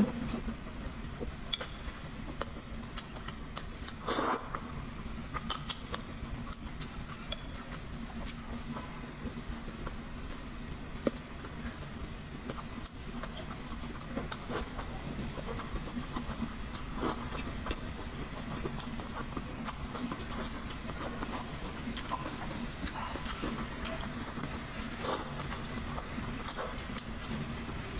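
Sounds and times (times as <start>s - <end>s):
soft chewing and mouth clicks: 0.0s - 27.9s
steady low hum: 0.0s - 27.9s.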